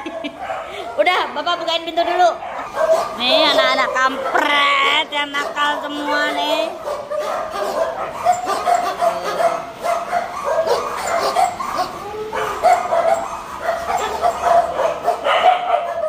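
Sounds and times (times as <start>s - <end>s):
many dogs barking and yelping: 0.0s - 16.0s.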